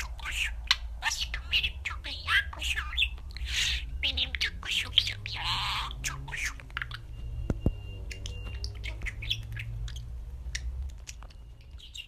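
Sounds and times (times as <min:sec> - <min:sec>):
budgerigar chirping: 0:00.0 - 0:12.0
low steady hum: 0:00.0 - 0:12.0.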